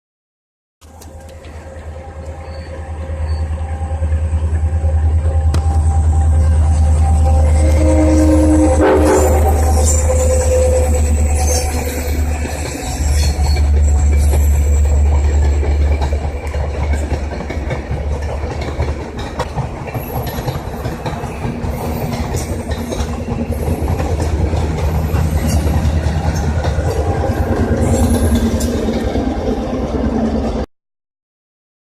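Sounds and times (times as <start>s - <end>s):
wheels clicking over rail joints: 0.8s - 7.8s, 9.4s - 30.6s
train rumbling past: 0.8s - 30.7s.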